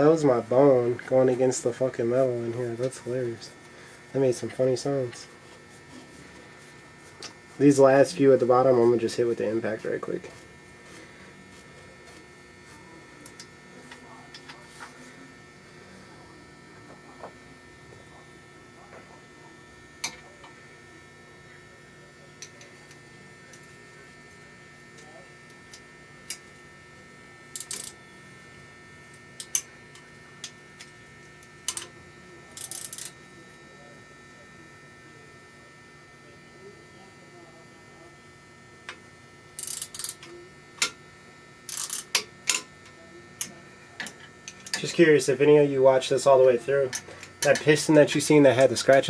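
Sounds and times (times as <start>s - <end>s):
low electrical hum: 0.0s - 49.0s.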